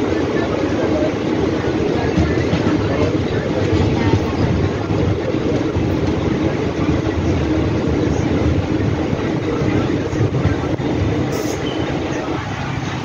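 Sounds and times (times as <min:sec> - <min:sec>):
train coaches rumbling on track: 0:00.0 - 0:13.0.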